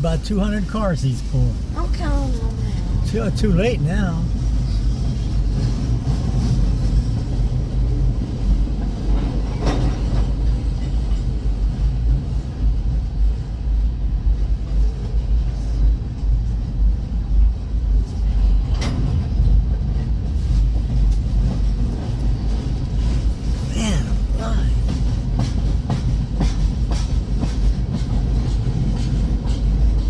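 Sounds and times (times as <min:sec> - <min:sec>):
train car clanks: 0:00.0 - 0:12.4, 0:17.1 - 0:30.0
train wheels rumbling on rail: 0:00.0 - 0:30.0.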